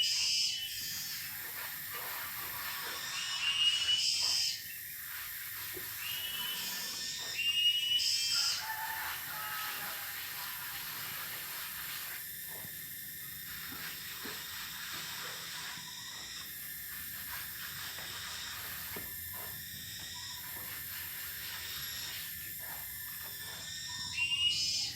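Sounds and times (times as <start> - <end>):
cicadas droning: 0.0 - 24.9.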